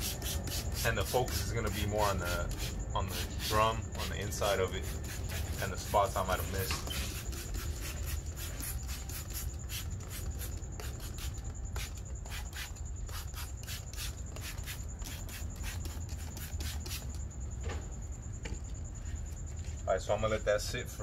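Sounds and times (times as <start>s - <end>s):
spray bottle spritzes: 0.0s - 17.2s.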